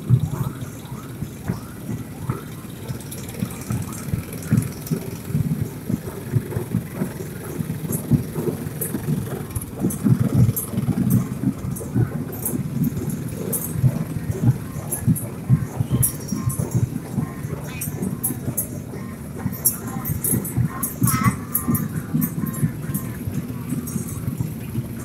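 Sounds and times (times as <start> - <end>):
small engines rumbling past: 0.0 - 25.0.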